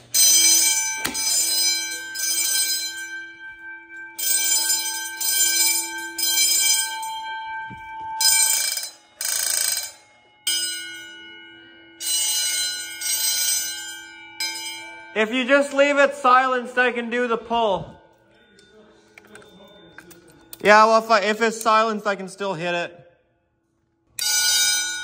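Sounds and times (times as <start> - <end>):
fire alarm bells ringing: 0.0 - 25.0.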